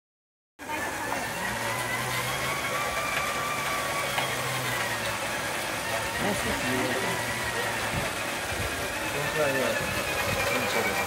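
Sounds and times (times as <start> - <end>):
mechanical noise: 0.6 - 11.0
shaved-ice machine whining: 0.6 - 11.0.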